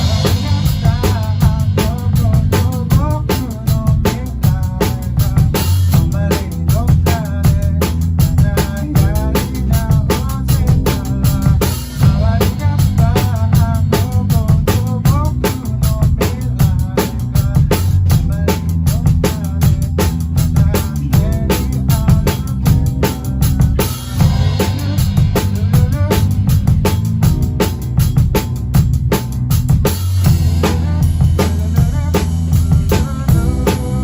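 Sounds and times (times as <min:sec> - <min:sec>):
drums driving beat: 0:00.0 - 0:34.0
live pop-rock band playing: 0:00.0 - 0:34.0.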